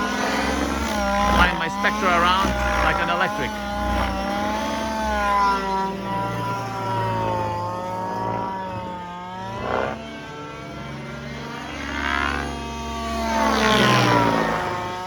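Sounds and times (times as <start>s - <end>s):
rc helicopter engine running: 0.0s - 15.0s.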